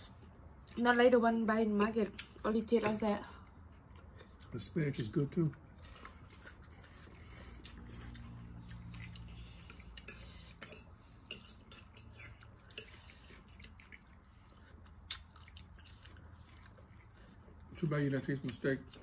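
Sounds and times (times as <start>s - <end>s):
low steady hum: 0.0s - 19.0s
chewing: 1.8s - 19.0s.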